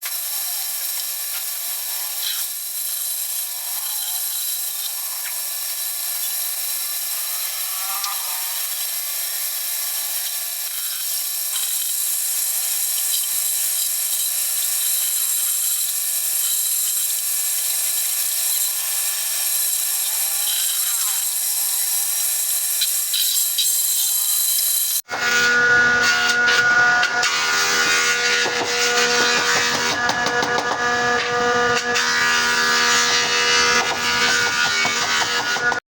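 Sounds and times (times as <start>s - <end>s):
electric wood cutter whining: 0.0s - 35.9s.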